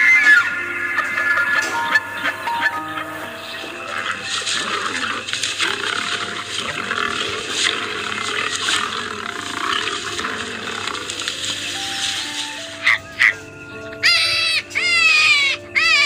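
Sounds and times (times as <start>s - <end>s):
lion growling: 0.0s - 13.4s.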